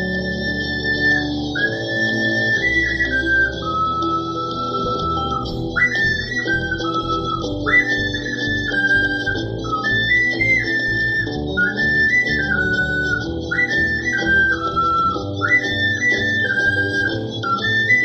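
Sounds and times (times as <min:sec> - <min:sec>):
low accompaniment: 0:00.0 - 0:18.0
ocarina melody: 0:00.0 - 0:18.0.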